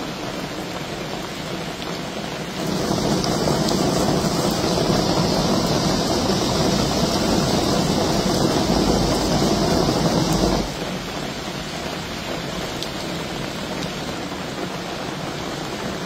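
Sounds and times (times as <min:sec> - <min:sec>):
heavy rain on road: 0:00.0 - 0:16.0.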